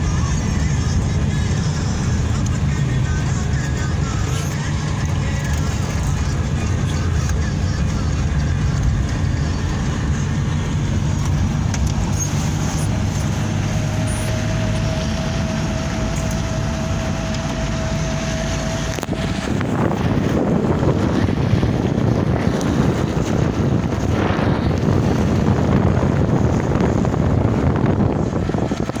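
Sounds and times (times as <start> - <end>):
vehicle running noise: 0.0 - 29.0
wind buffeting microphone: 0.0 - 29.0.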